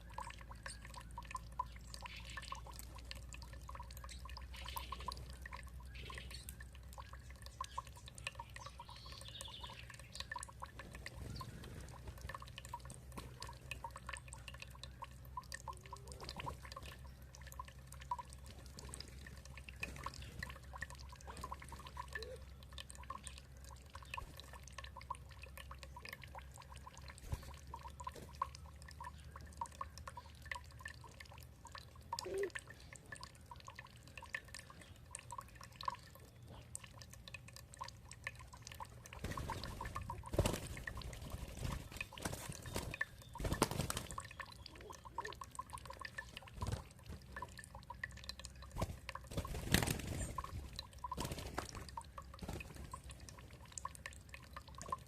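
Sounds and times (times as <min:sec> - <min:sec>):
water dripping and trickling: 0:00.0 - 0:55.0.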